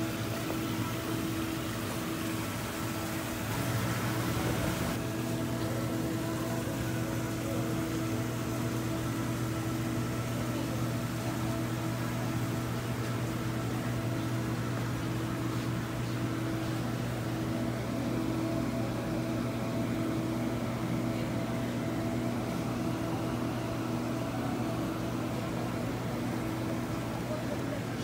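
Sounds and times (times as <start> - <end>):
machinery hum: 0.0 - 28.0.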